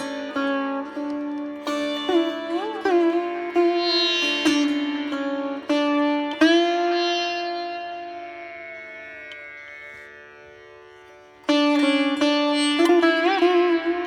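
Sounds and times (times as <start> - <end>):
plucked string instrument music: 0.0 - 10.0, 11.4 - 14.0.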